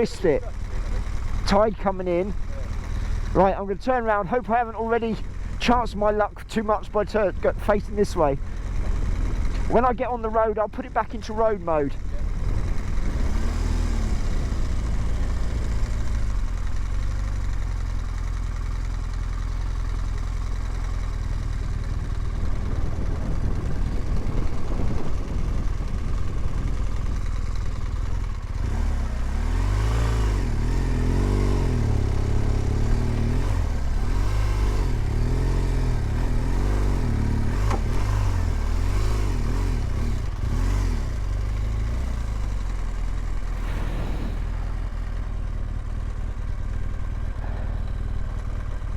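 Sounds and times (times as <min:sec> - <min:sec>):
motorcycle engine revving: 0:00.0 - 0:03.6, 0:07.7 - 0:10.3, 0:11.2 - 0:48.9.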